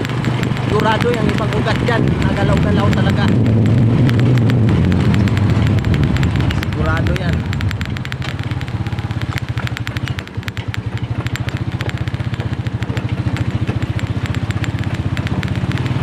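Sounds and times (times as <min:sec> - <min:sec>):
motorcycle engine running: 0:00.0 - 0:16.0
rattling road noise: 0:00.0 - 0:16.0.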